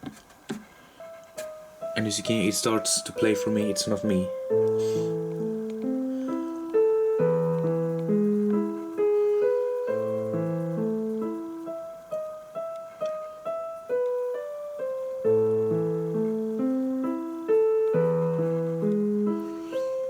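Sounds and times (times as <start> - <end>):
electronic keyboard piano melody: 0.9 - 20.0.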